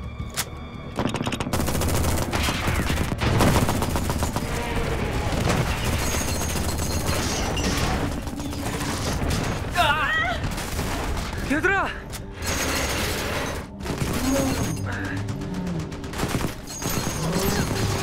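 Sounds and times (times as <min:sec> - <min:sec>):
rapid weapons fire: 0:01.0 - 0:11.6, 0:12.5 - 0:18.0.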